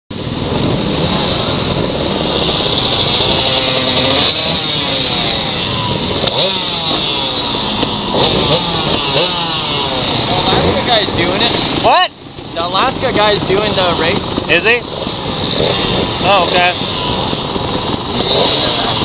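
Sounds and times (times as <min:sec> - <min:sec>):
motorcycle engine revving: 0:00.1 - 0:19.0.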